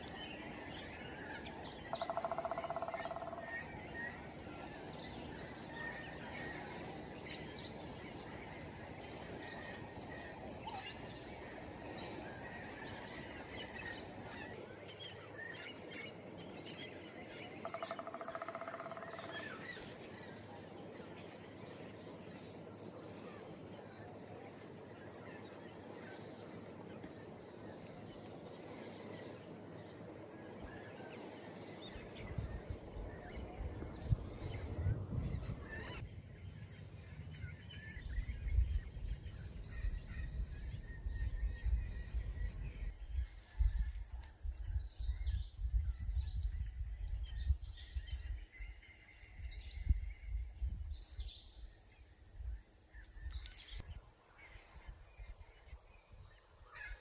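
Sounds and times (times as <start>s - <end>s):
faint bird chirps: 0.0s - 55.4s
steady background hiss: 0.0s - 57.0s.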